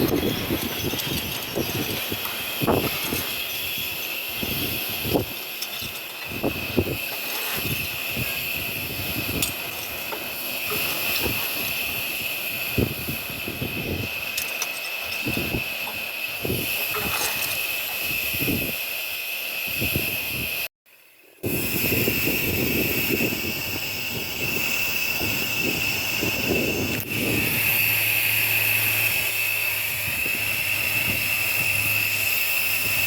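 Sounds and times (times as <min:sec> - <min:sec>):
low puffs of steam: 0:00.0 - 0:33.0
steam locomotive hissing: 0:00.0 - 0:33.0.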